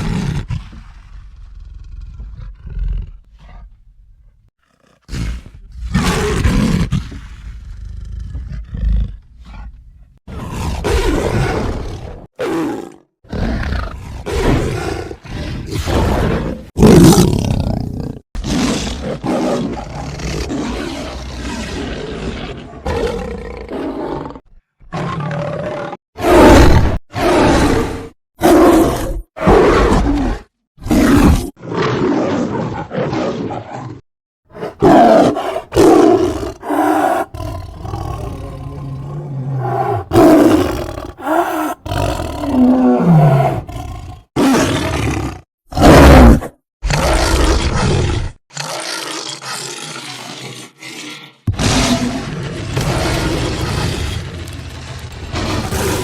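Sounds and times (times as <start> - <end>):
big cat roars and growls: 0.0 - 3.8, 4.6 - 56.0.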